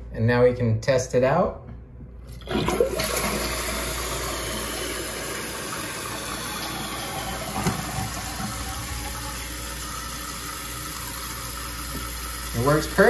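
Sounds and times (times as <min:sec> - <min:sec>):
toilet tank draining: 0:02.3 - 0:13.0
water rushing into toilet tank: 0:02.3 - 0:13.0.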